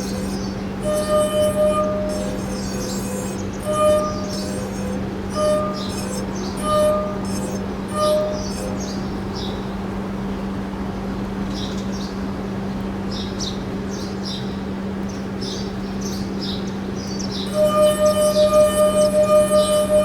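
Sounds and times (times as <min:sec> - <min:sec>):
steady low hum: 0:00.0 - 0:13.8, 0:14.6 - 0:20.0.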